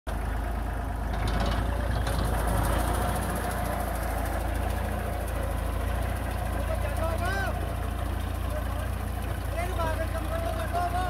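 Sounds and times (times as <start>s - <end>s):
tractor engine running: 0.1s - 11.0s.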